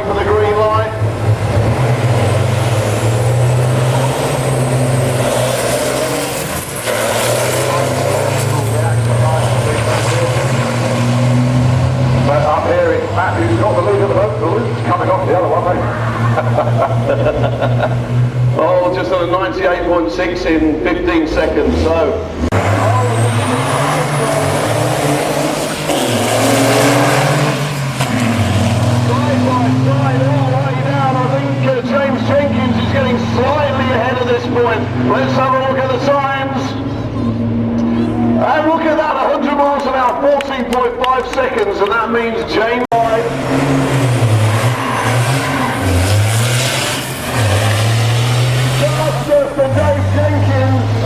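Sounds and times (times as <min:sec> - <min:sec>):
diesel engines at full throttle: 0:00.0 - 0:51.0.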